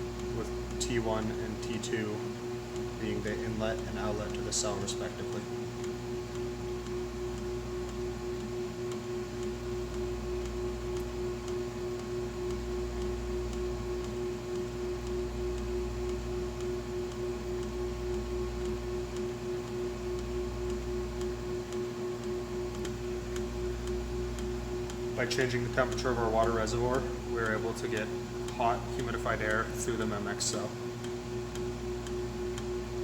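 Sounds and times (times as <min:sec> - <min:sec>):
water pump humming: 0:00.0 - 0:33.0.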